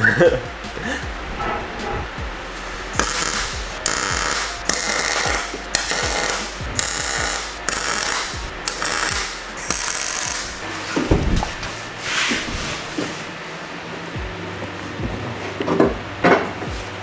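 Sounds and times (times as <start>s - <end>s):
welder crackling and hissing: 0.0s - 14.3s
steady low hum: 0.0s - 17.0s.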